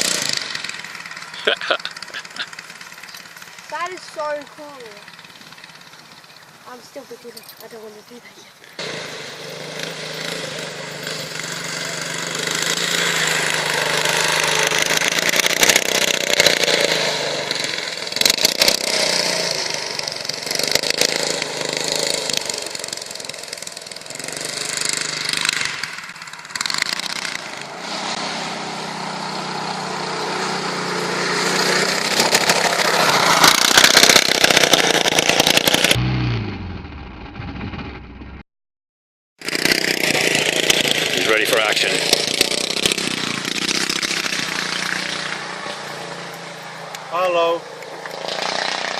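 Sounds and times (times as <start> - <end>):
buggy engine revving: 0.0 - 38.4, 39.4 - 48.9.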